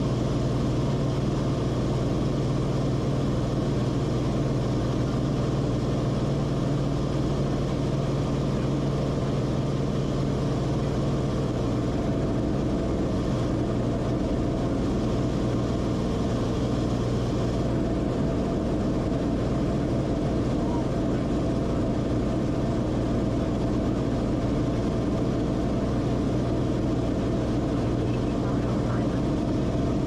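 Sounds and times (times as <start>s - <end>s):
aircraft engine and propeller drone: 0.0s - 30.0s.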